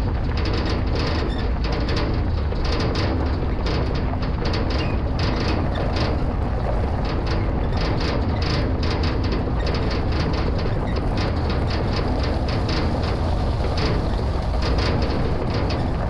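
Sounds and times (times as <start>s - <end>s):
metallic rattles and clanks: 0.0s - 16.0s.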